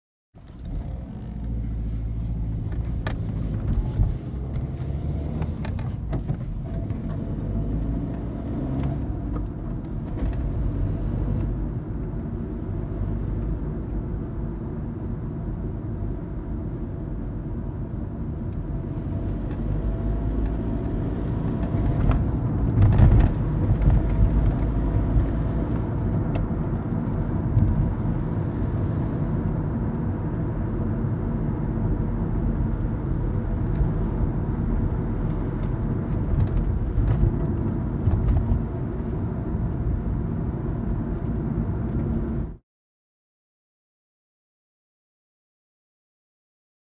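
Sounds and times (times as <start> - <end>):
car engine and road rumble: 0.4 - 42.6.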